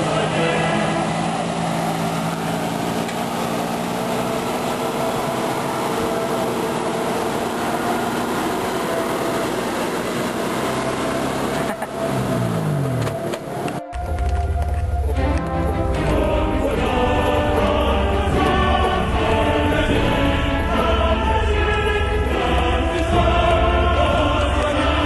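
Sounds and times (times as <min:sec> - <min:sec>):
truck engine running slowly: 0:00.0 - 0:25.0.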